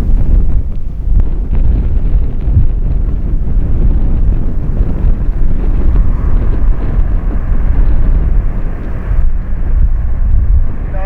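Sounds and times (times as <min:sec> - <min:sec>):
jet aircraft roar: 0:00.0 - 0:11.0
wind buffeting microphone: 0:00.0 - 0:11.0.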